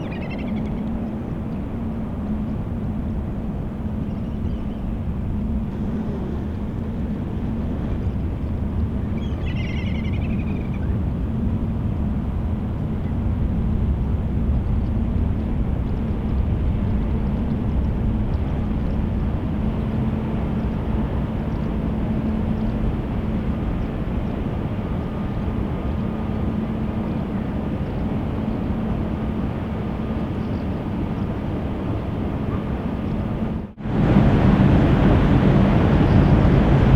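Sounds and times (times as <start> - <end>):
ship machinery rumble: 0.0 - 36.9.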